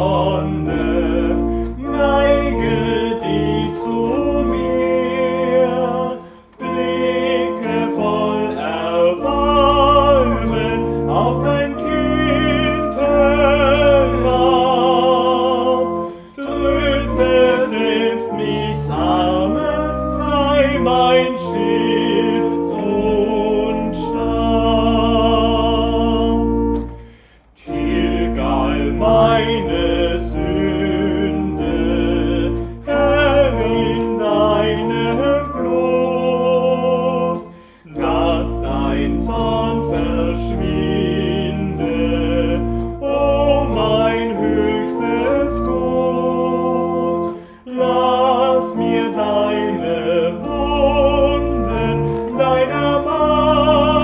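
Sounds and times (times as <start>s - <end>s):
church organ: 0.0s - 54.0s
person singing with vibrato: 0.0s - 54.0s.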